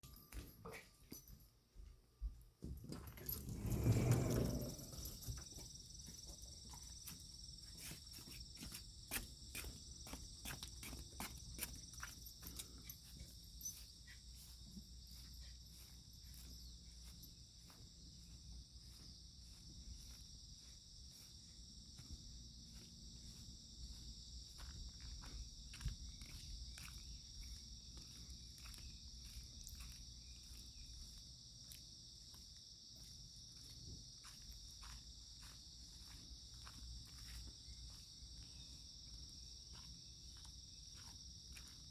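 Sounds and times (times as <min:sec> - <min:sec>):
insects chirring: 0:03.3 - 0:41.9.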